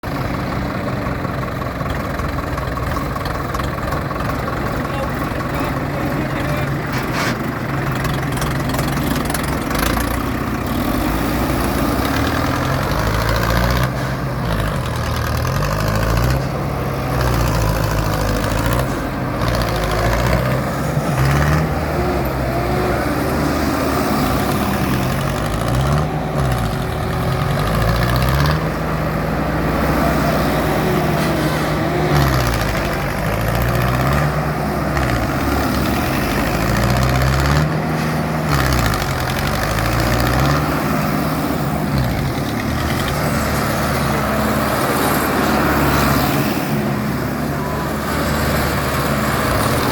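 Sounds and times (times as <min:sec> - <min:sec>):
diesel tractor engine revving: 0:00.0 - 0:49.9.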